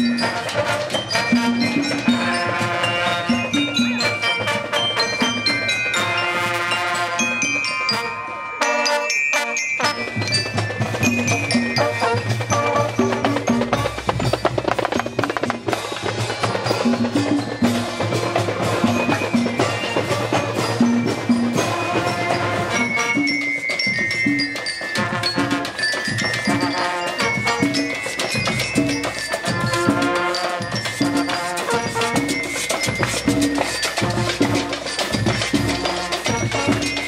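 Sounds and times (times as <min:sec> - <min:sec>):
bell-like mallet percussion melody: 0:00.0 - 0:37.0
drums and percussion: 0:00.0 - 0:37.0.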